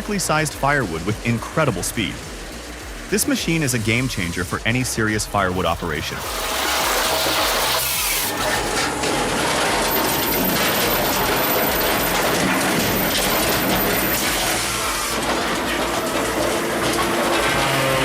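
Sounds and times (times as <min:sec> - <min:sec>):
firewood processor saw running: 0:00.0 - 0:18.0.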